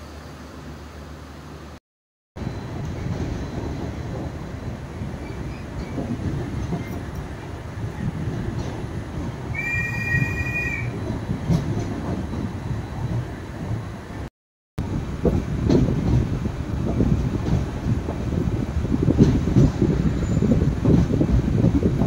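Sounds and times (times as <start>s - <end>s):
train wheels rumbling on rail: 2.4s - 22.0s.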